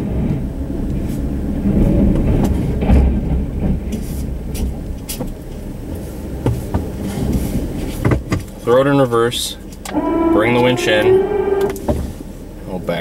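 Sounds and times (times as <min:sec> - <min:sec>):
pickup truck engine rumble: 0:00.0 - 0:13.0.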